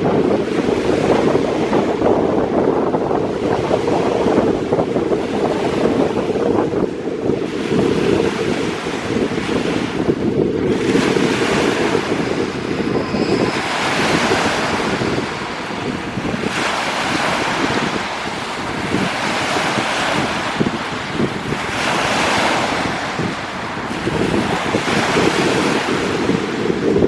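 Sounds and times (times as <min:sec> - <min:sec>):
waves breaking: 0:00.0 - 0:27.0
wind buffeting microphone: 0:00.0 - 0:27.0.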